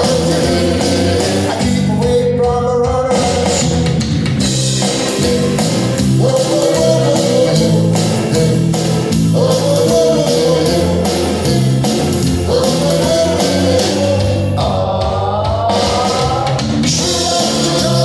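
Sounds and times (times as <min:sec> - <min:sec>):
group singing: 0:00.0 - 0:02.2, 0:04.8 - 0:18.0.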